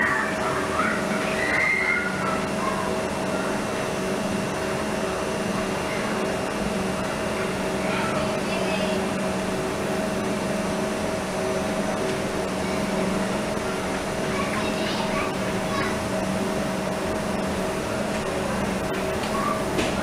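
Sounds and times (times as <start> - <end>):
constant low tones: 0.0 - 20.0
train fans humming and hissing: 0.0 - 20.0.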